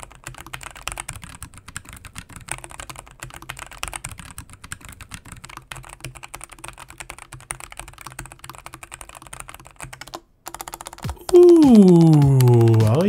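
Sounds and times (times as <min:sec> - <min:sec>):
fast keyboard typing: 0:00.0 - 0:13.0.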